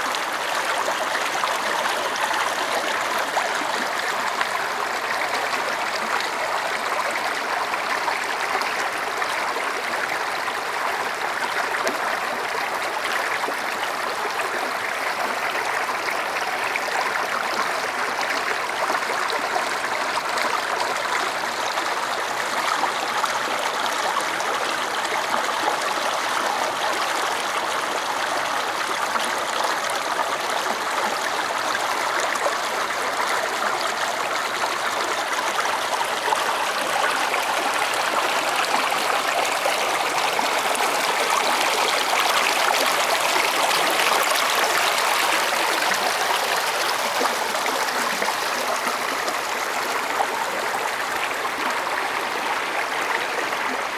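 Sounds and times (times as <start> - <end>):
creek water rushing over rock: 0.0 - 53.9.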